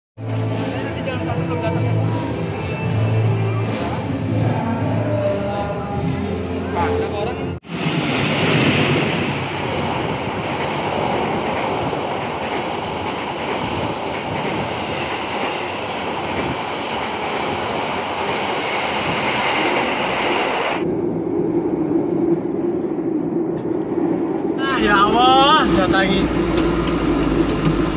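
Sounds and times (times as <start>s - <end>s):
train passing at speed: 0.2s - 27.9s.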